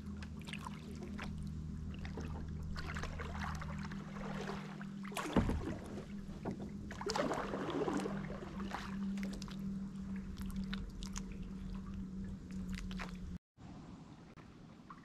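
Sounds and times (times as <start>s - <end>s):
steady low hum: 0.0s - 13.4s
kayak paddle splashing water: 0.3s - 13.4s.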